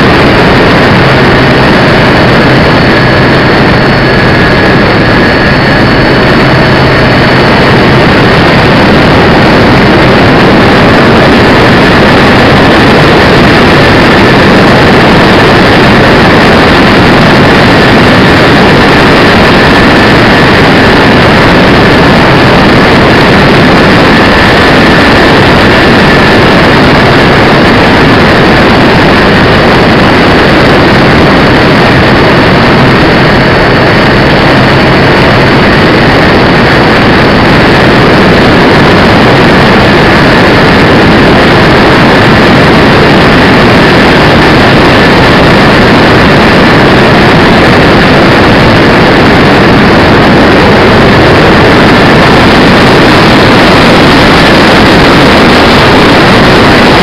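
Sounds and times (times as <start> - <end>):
rushing airflow: 0.0 - 57.0
thin steady whine: 0.0 - 57.0.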